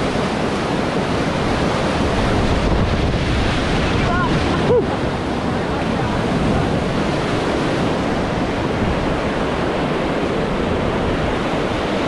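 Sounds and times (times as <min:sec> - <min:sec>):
white water rushing: 0:00.0 - 0:12.0.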